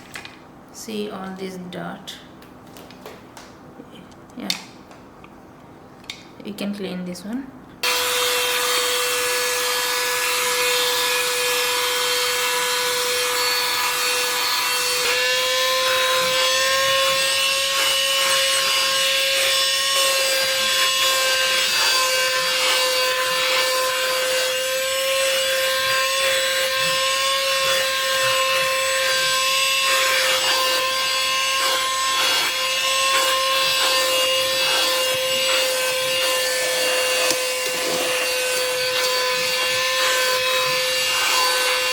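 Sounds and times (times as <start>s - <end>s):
handheld vacuum cleaner running: 7.8s - 41.9s.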